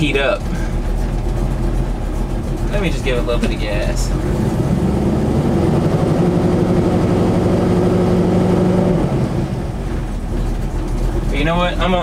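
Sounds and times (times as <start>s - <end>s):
pickup engine revving: 0.0s - 12.0s.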